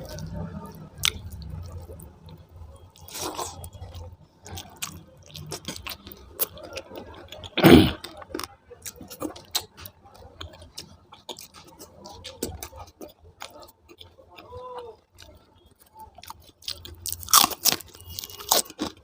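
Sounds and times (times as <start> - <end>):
chewing food: 0.0 - 19.0.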